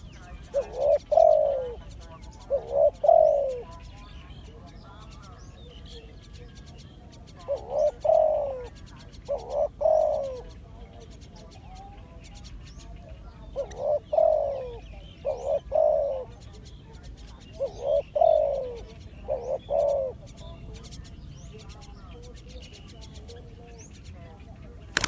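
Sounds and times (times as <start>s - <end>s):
dove cooing: 0.0s - 25.0s
faint bird chirps: 0.0s - 25.0s.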